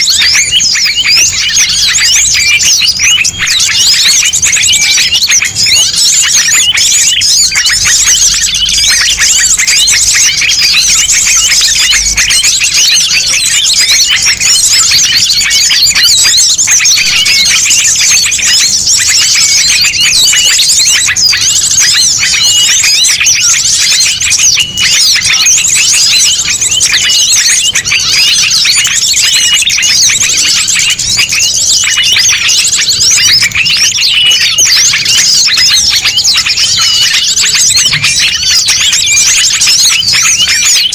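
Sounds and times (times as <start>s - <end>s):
songbirds chirping chorus: 0.0s - 40.9s.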